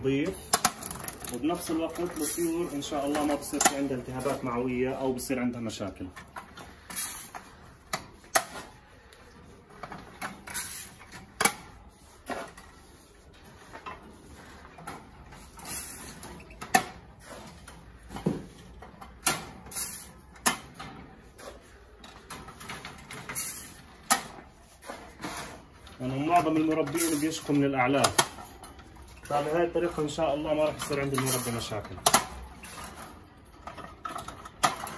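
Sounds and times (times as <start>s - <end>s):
plastic trays rattling on wire cages: 0.0s - 8.8s, 13.5s - 34.9s.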